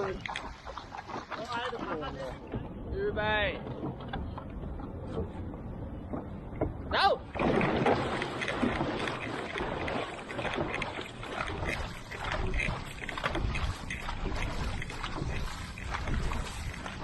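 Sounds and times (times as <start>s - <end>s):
paddle blades splashing: 0.0s - 17.0s
water rushing along hull: 0.0s - 17.0s.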